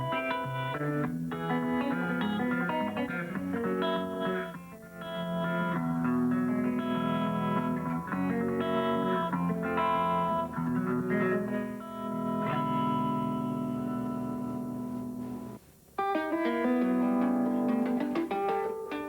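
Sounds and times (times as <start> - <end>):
thumbpicked guitar: 0.0 - 19.0.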